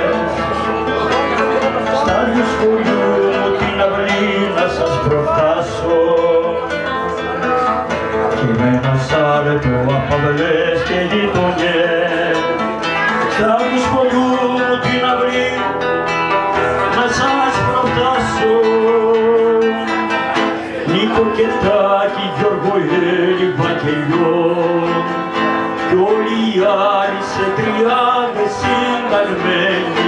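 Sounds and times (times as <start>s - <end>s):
acoustic guitar: 0.0s - 30.0s
man singing: 0.0s - 30.0s.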